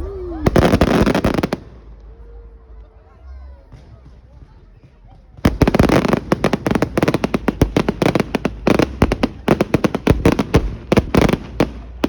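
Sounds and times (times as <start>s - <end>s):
fireworks bangs and crackles: 0.0s - 2.2s, 3.6s - 12.0s.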